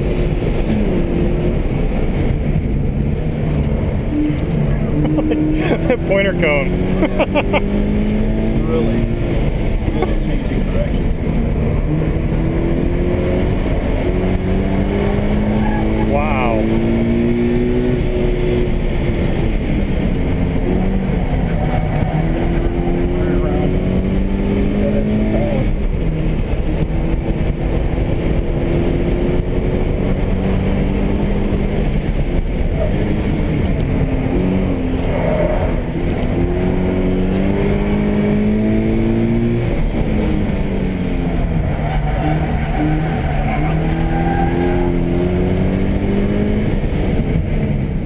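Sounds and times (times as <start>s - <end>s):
car engine revving: 0.0s - 48.0s
wind and road noise: 0.0s - 48.0s.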